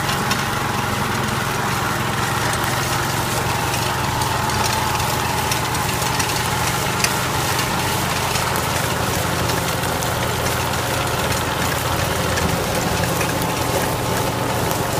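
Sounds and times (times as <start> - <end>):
crackle of cherries against tyre: 0.0 - 14.9
small engine running: 0.0 - 14.9.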